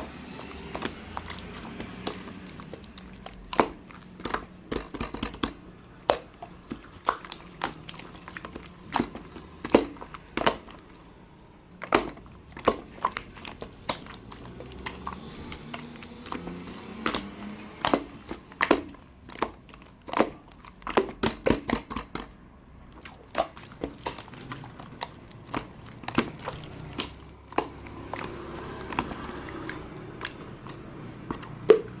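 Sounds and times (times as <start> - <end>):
slime squished by hand: 0.0 - 32.0.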